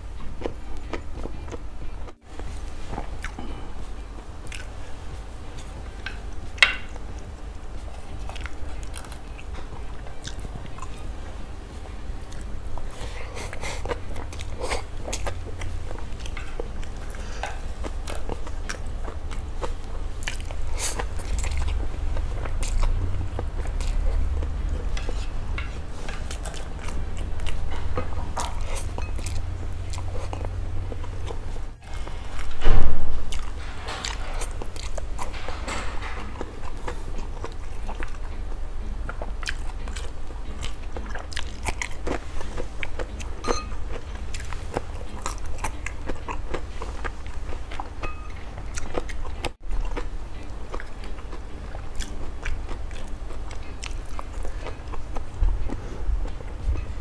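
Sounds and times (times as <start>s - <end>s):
man chewing noodles: 0.0s - 57.0s.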